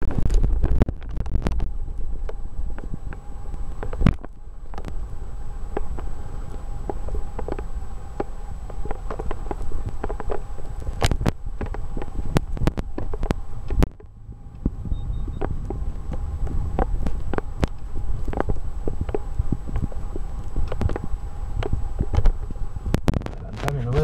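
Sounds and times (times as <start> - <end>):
engine and road rumble: 0.0 - 24.0
faint steady whine: 0.0 - 24.0.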